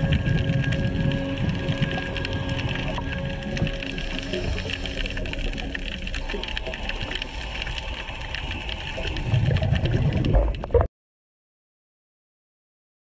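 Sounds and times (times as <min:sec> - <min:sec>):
crackle of small clicks underwater: 0:00.0 - 0:10.9
low underwater rumble: 0:00.0 - 0:10.9.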